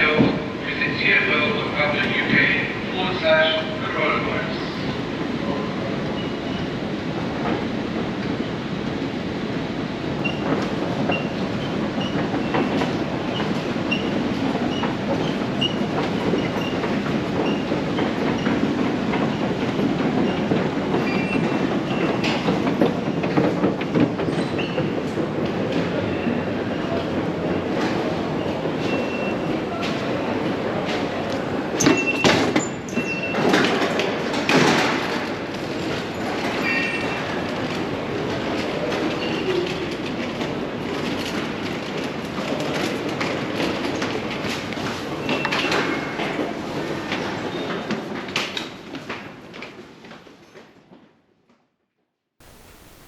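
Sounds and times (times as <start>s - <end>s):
train wheels rumbling on rail: 0.0s - 51.2s.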